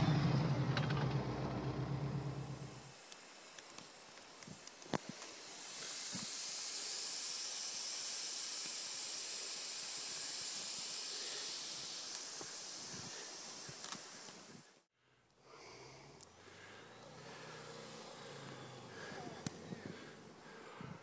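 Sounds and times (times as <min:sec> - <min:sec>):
steady high hiss: 0:01.3 - 0:21.0.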